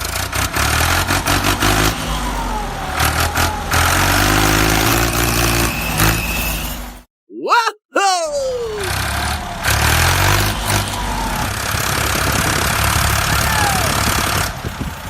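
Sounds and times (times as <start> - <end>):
truck engine revving: 0.0 - 7.0, 8.6 - 15.0.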